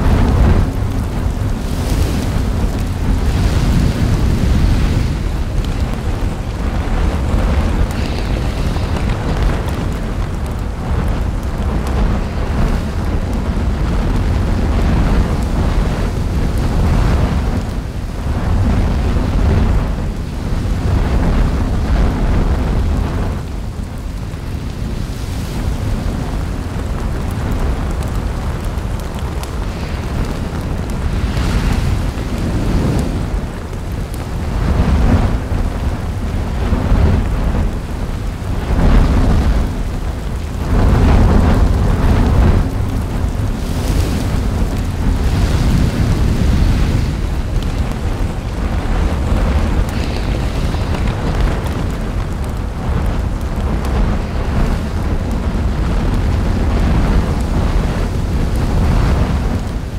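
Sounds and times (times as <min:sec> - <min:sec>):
deep rumble of erupting lava: 0:00.0 - 0:59.9.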